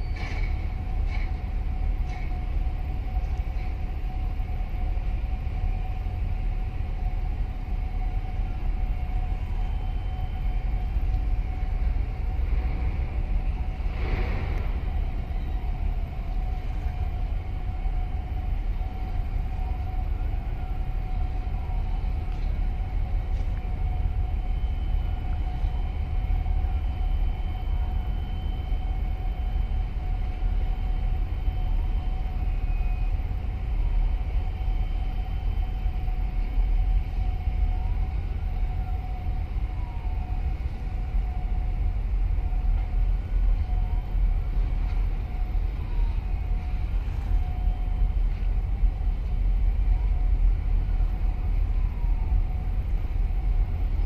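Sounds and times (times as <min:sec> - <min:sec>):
boat engine rumbling: 0:00.0 - 0:54.0.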